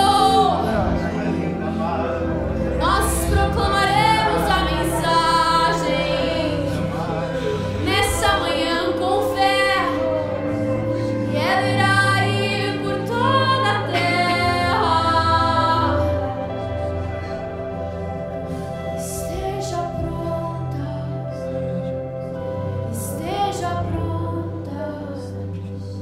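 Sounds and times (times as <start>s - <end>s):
keyboard: 0.0s - 26.0s
woman singing: 0.0s - 26.0s.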